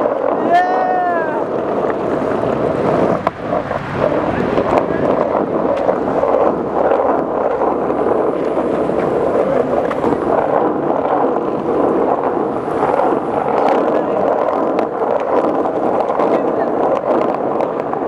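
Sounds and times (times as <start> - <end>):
skateboard wheels rolling on asphalt: 0.0 - 18.0
wind on microphone: 0.0 - 18.0.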